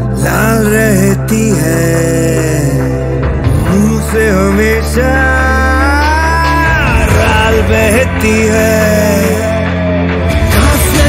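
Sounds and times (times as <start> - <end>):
song with sung melody: 0.0 - 11.0.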